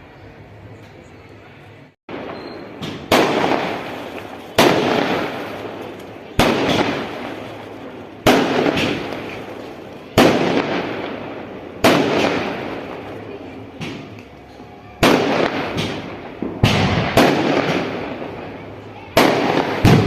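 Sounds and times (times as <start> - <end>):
loud bangs: 2.1 - 14.2, 15.0 - 18.4, 19.2 - 20.0.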